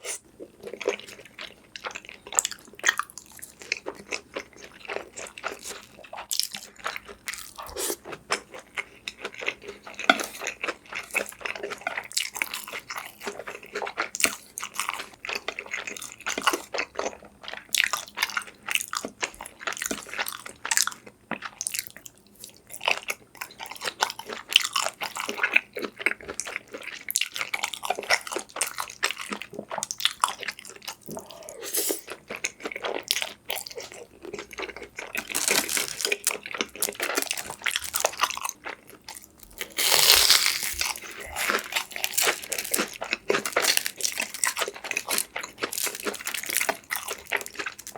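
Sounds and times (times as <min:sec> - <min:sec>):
crunchy chewing: 0:00.0 - 0:47.9.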